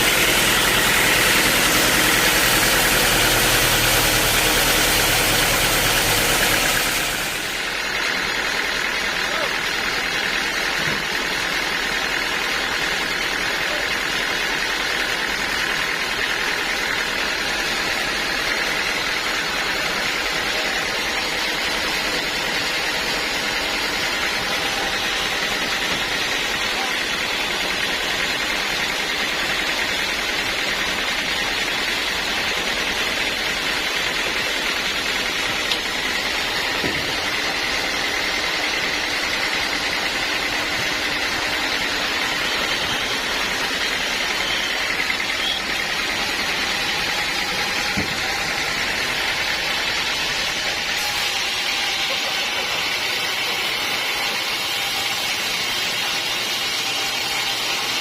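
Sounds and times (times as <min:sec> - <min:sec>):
band saw running: 0:00.0 - 0:58.0.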